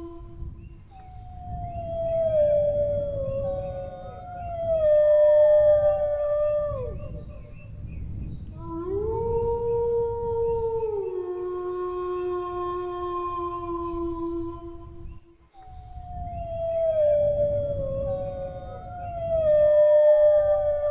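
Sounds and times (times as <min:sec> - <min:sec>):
dogs howling: 0:01.3 - 0:07.6, 0:08.5 - 0:15.0, 0:16.1 - 0:20.9.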